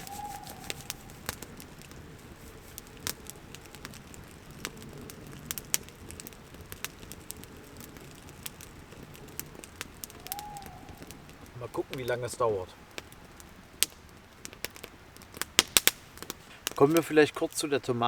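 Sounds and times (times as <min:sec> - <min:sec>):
campfire crackling and popping: 0:00.0 - 0:18.0
low steady hiss: 0:00.0 - 0:18.0.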